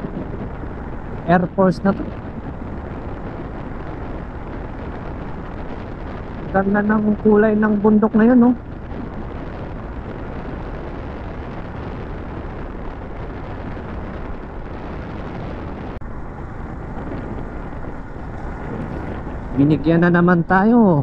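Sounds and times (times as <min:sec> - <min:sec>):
tyre and road rumble: 0:00.0 - 0:21.0
wind rushing over microphone: 0:00.0 - 0:21.0.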